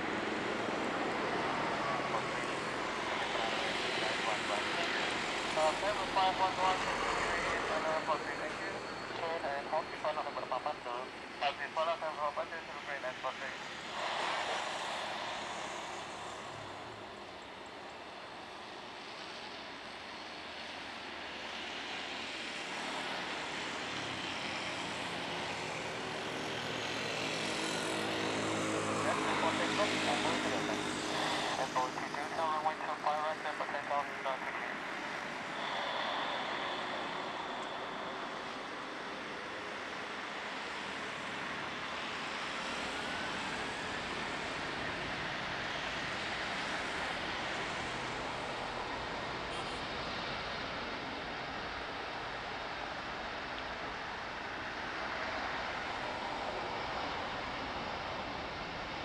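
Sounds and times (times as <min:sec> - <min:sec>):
engine whine: 0:00.0 - 0:59.0
jet engines running: 0:00.0 - 0:59.0.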